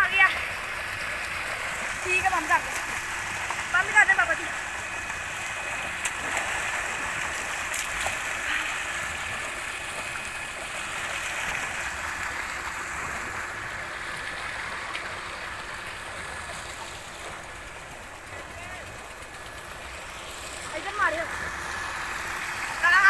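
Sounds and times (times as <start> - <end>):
water gushing into a tank: 0.0 - 23.0.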